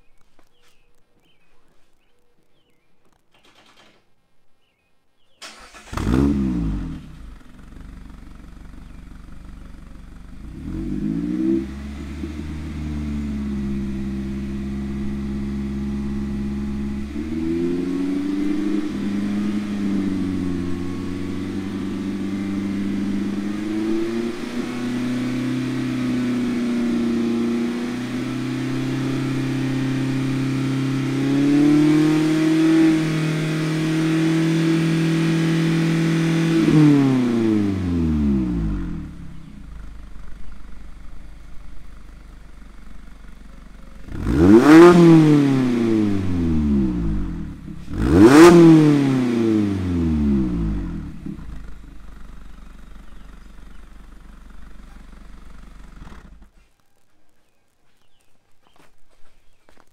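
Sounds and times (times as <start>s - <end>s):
car engine running: 5.4s - 56.6s.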